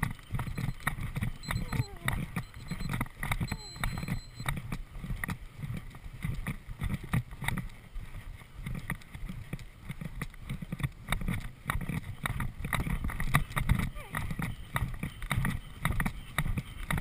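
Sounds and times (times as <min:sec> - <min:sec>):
horse hoofbeats on grass: 0:00.0 - 0:17.0
wind rumbling on microphone: 0:00.0 - 0:17.0.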